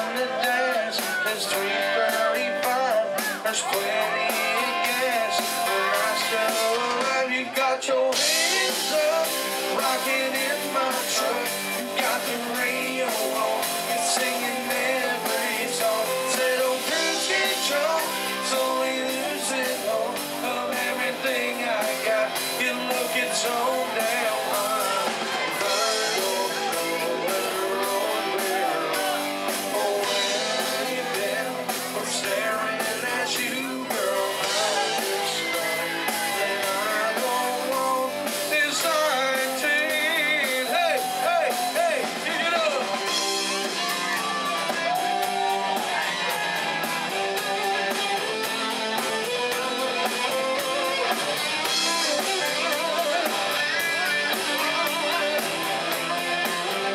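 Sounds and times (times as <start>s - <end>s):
live rock band playing: 0.0s - 56.9s
man singing: 0.0s - 56.9s.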